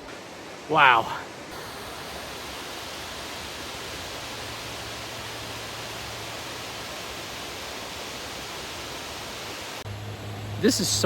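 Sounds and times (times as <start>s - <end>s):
white water rushing: 0.0s - 11.0s.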